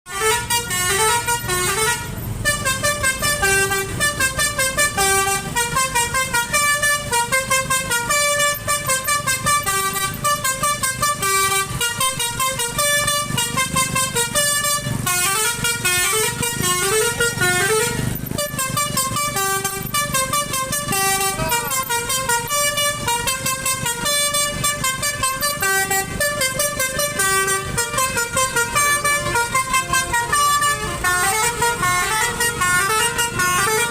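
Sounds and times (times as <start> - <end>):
bus multi-tone horn tune: 0.1 - 33.9.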